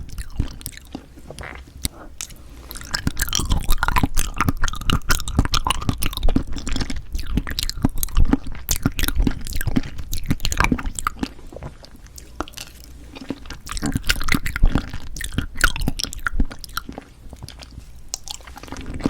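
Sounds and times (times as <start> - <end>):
wet chewing clicks and smacks: 0.0 - 19.0.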